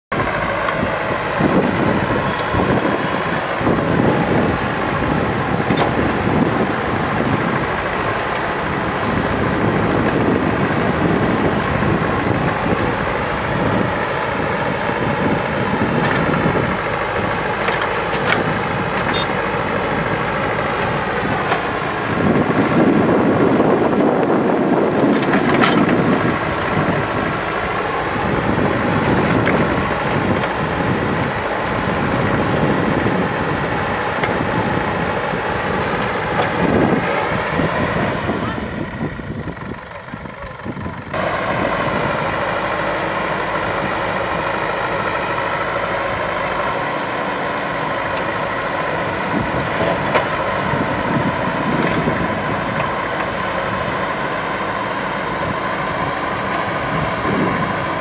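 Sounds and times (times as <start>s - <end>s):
backhoe diesel engine working: 0.1s - 58.0s.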